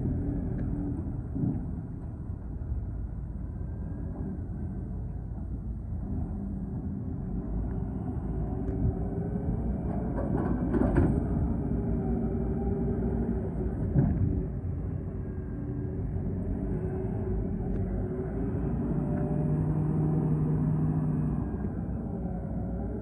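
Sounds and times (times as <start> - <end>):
excavator engine rumbling: 0.0 - 23.0.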